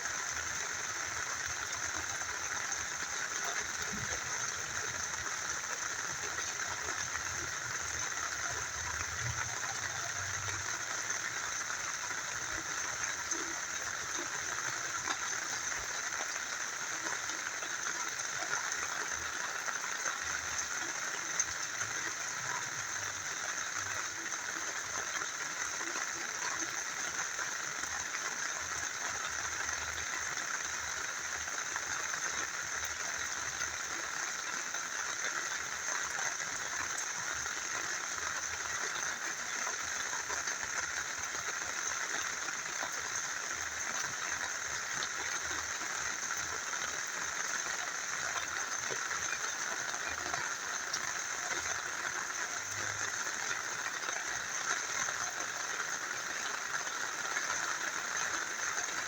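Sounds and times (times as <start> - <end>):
small river flowing: 0.0 - 59.0
steady rain falling: 0.0 - 59.0.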